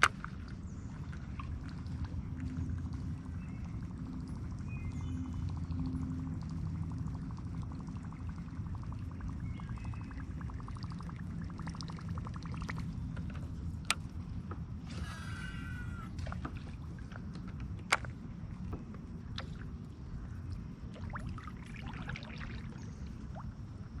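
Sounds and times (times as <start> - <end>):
water lapping against boat: 0.0 - 24.0
wind rumbling on microphone: 0.0 - 24.0.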